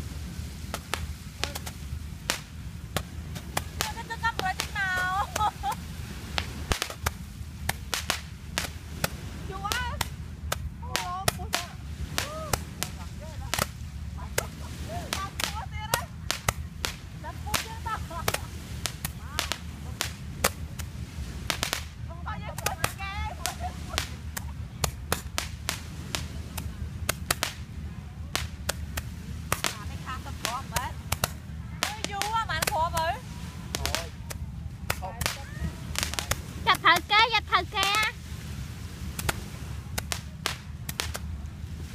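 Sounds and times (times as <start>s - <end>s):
fireworks cracks and pops: 0.0s - 38.4s, 39.0s - 41.9s
steady low rumble: 0.0s - 41.9s.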